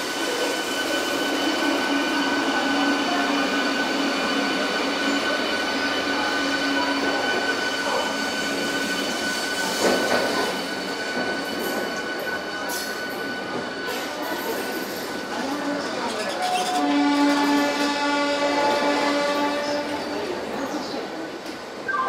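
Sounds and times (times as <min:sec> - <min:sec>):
electric train whining: 0:00.0 - 0:20.5.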